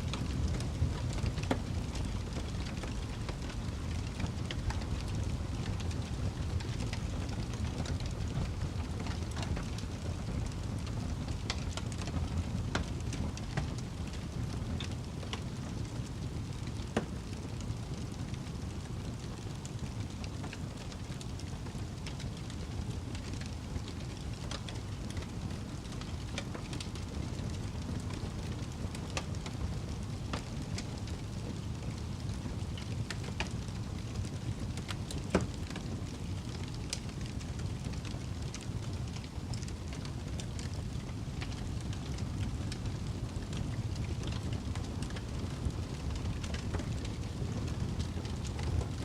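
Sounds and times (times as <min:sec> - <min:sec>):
fire popping and snapping: 0:00.0 - 0:49.0
low rumble of burning fire: 0:00.0 - 0:49.0.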